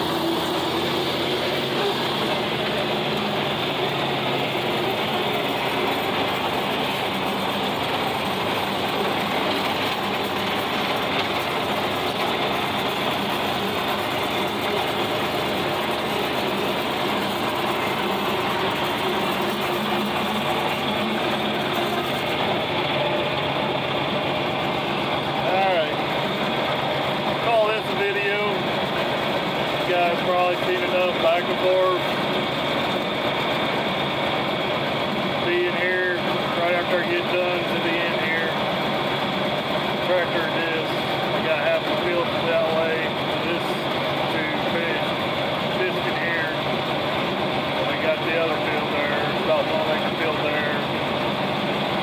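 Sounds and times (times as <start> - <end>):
rotary cutter cutting grass: 0.0 - 52.0
tractor engine running under load: 0.0 - 52.0.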